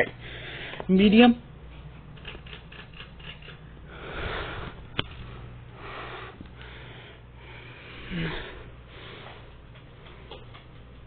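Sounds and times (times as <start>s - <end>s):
ceiling fan motor humming: 0.0s - 11.0s.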